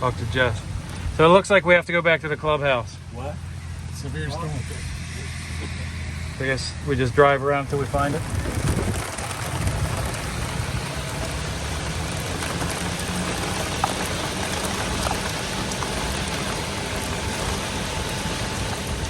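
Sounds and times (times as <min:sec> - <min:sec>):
golf cart rumbling: 0:00.0 - 0:19.0
steady rain falling: 0:00.0 - 0:19.0.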